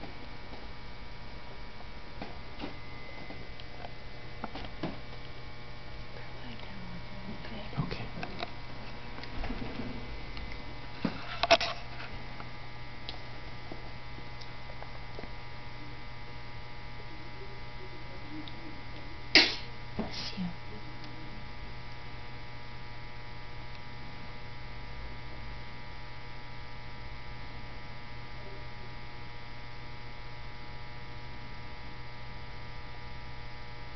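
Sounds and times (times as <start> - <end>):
electrical mains hum: 0.0 - 33.9.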